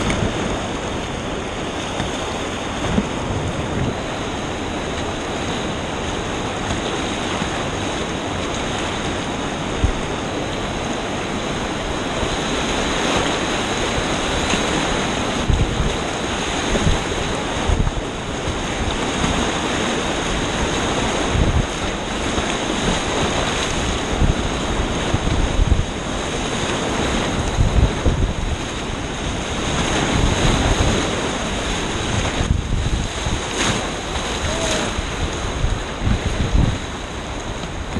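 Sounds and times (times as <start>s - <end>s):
paddle splashing water: 0.0s - 37.9s
whitewater rapids rushing: 0.0s - 37.9s
wind noise on microphone: 0.0s - 37.9s.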